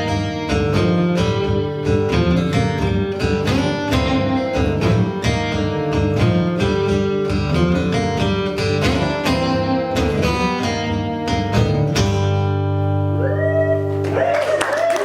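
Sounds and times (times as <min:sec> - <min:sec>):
acoustic guitar strumming: 0:00.0 - 0:14.1.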